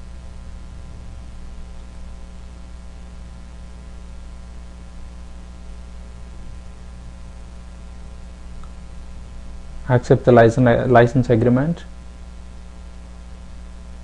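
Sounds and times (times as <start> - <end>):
background hiss: 0.0 - 14.0
electrical hum: 0.0 - 14.0.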